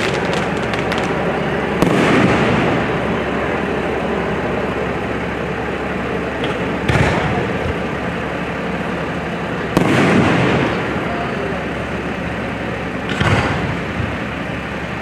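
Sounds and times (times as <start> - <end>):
fireworks booming: 0.0 - 4.8, 6.3 - 14.5
steady noisy background: 0.0 - 15.0.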